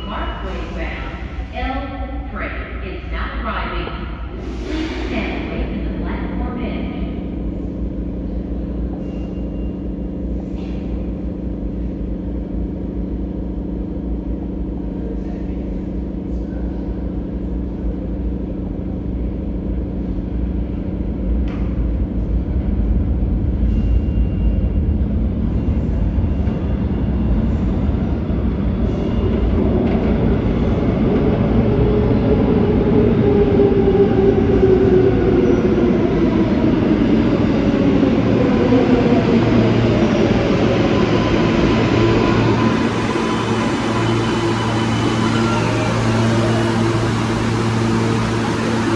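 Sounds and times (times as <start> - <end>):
subway train rumble: 0.0 - 48.9.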